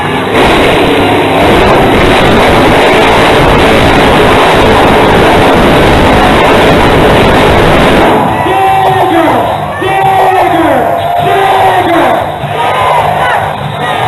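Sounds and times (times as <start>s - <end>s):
monster truck engine at full throttle: 0.0s - 14.0s.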